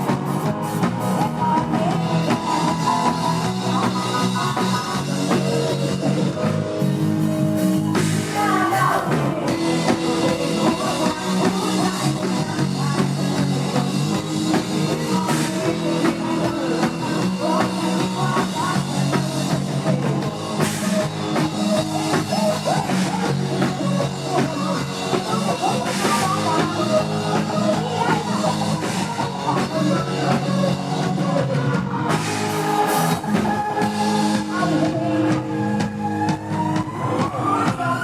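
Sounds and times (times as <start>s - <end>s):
drum kit beat: 0.0s - 38.0s
guitar: 0.0s - 38.0s
wavering lead melody: 0.0s - 38.0s.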